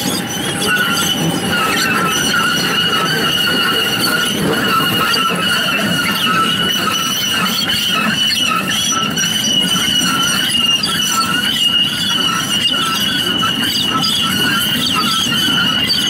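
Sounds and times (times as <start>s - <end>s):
wheel squeal on rails: 0.0s - 16.0s
wheels rumbling and clattering: 0.0s - 16.0s.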